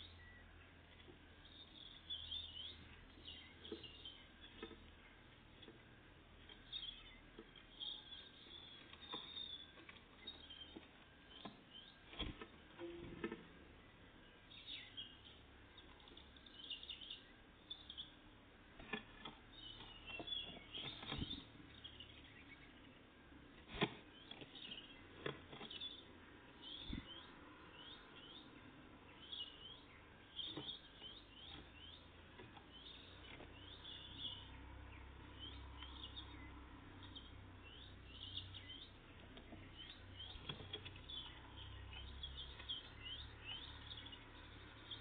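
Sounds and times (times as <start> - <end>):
small songbirds chirping: 0.0 - 45.0.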